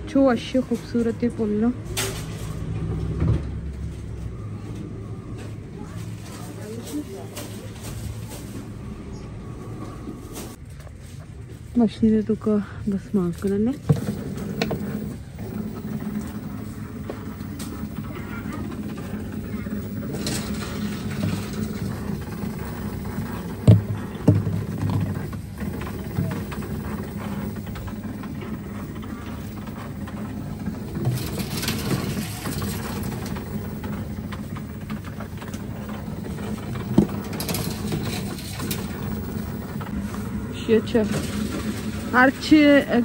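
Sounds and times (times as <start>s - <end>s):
vending machine running: 0.0s - 10.8s, 12.9s - 43.0s.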